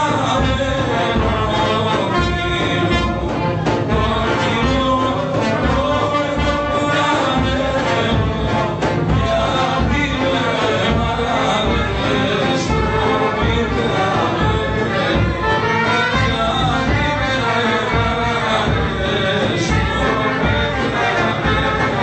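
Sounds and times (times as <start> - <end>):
brass band playing folk tune: 0.0 - 22.0
trombone: 0.0 - 22.0.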